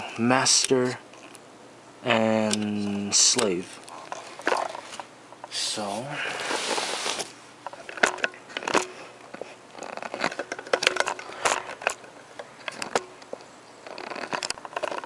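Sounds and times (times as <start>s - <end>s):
handling clicks and scrapes: 2.4s - 15.0s.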